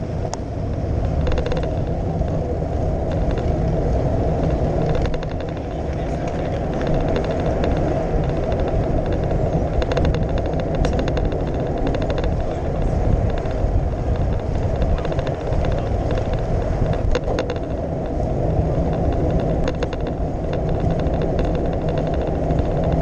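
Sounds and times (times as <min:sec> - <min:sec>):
wind rumbling on microphone: 0:00.0 - 0:23.0
light clicks and rattles: 0:00.2 - 0:23.0.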